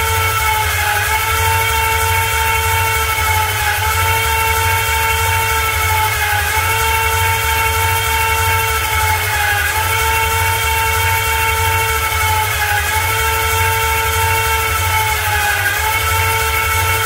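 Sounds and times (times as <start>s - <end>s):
motor whining: 0.0s - 17.0s.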